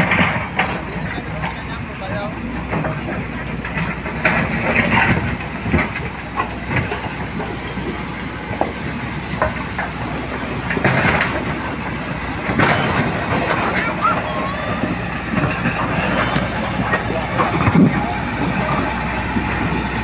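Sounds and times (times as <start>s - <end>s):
diesel machinery running: 0.0s - 20.0s
scraping and clattering: 0.0s - 20.0s.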